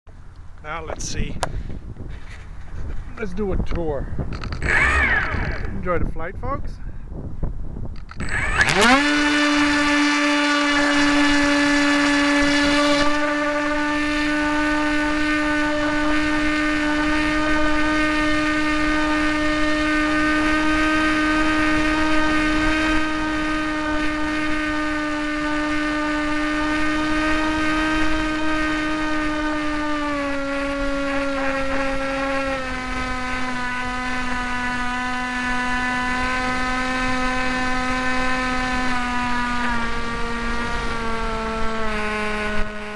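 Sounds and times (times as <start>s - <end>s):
low wind rumble: 0.1s - 42.9s
electric motor and propeller whine: 0.4s - 6.4s, 7.8s - 42.9s.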